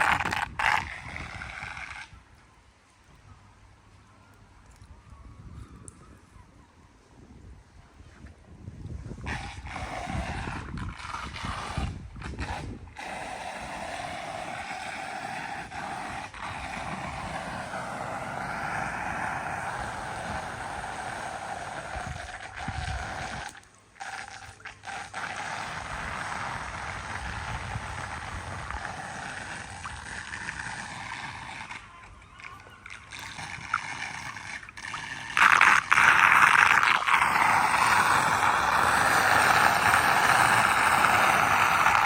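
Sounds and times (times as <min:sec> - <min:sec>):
floodwater rushing down storm drain: 0:00.0 - 0:02.1, 0:09.3 - 0:42.0.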